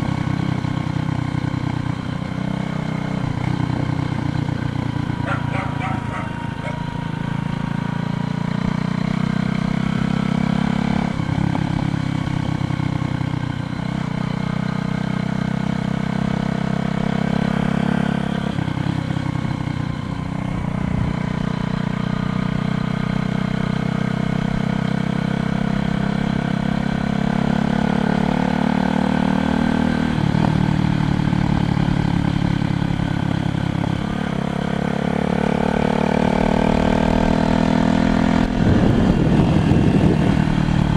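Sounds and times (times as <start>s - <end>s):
vehicle engine running: 0.0s - 15.0s, 16.8s - 24.6s, 29.8s - 40.9s.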